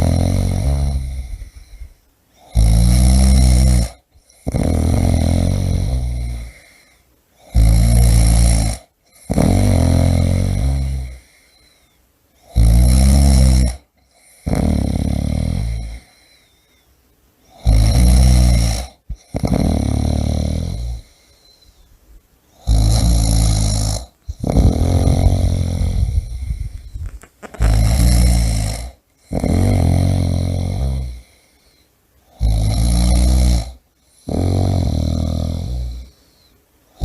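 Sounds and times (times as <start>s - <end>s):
person snoring heavily: 0.0s - 11.7s, 12.4s - 16.5s, 17.5s - 21.6s, 22.6s - 31.6s, 32.3s - 37.0s.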